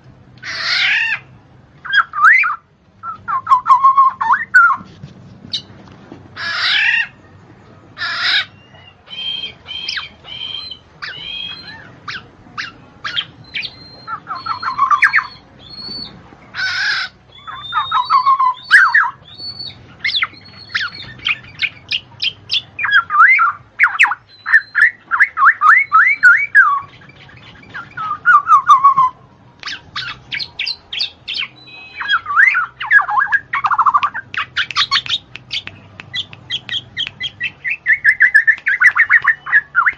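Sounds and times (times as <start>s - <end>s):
bird calling and singing: 0.4s - 5.8s, 6.4s - 39.9s.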